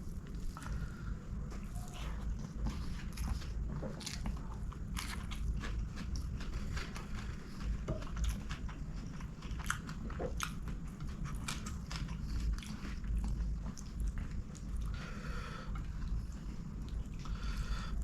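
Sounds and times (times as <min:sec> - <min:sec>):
person chewing: 0:00.0 - 0:18.0
steady low rumble: 0:00.0 - 0:18.0.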